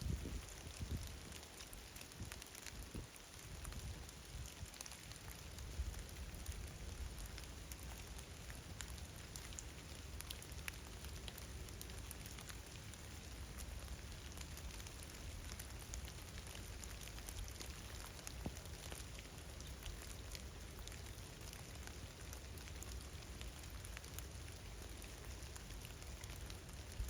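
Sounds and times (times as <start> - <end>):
light rain with drops ticking: 0.0 - 27.0.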